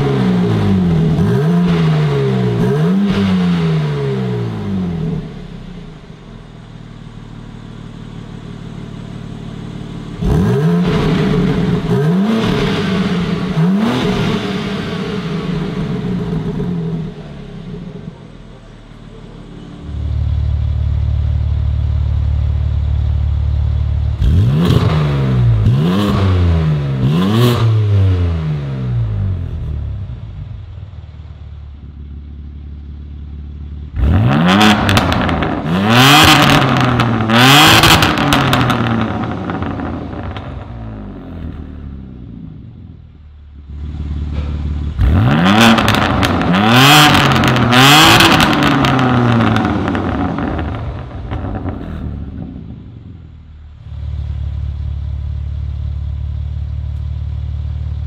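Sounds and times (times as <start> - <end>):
car engine revving: 0.0 - 57.0
car engine idling: 3.8 - 25.8, 28.0 - 58.0.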